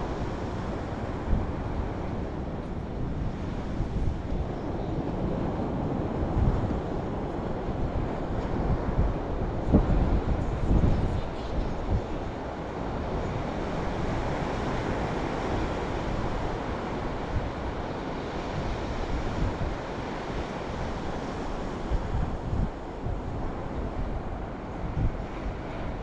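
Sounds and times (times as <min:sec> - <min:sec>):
ocean surf on sandy beach: 0:00.0 - 0:26.0
wind buffeting microphone: 0:00.0 - 0:26.0.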